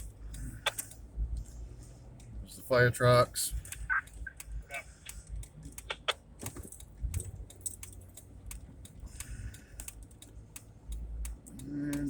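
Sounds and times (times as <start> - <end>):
light clicks and rattles: 0.0 - 12.0
low steady rumble: 0.0 - 12.0.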